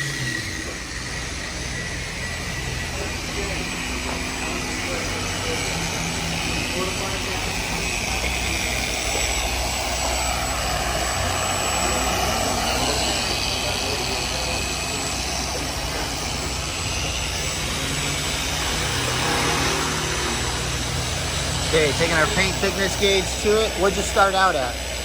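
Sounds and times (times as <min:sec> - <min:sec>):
machine sander running: 0:00.0 - 0:25.0.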